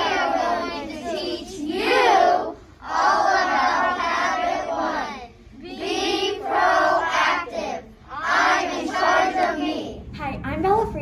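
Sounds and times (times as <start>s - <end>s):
children singing together: 0.0s - 10.0s.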